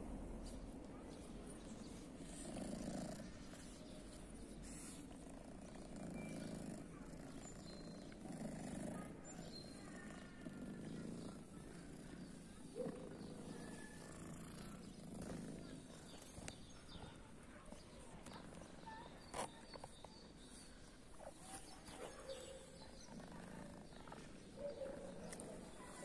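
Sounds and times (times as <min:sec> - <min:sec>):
kitten purring: 0:01.6 - 0:26.0.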